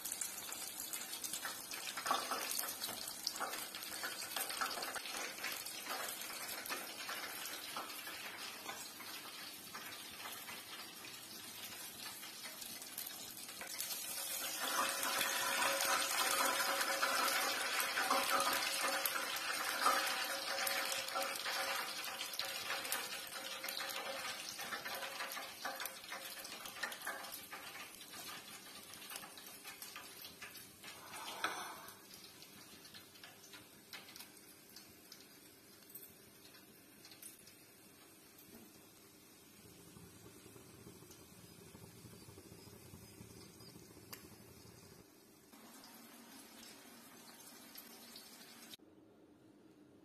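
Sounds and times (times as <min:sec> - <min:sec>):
chicken deep-frying sizzle: 0:00.0 - 0:48.9.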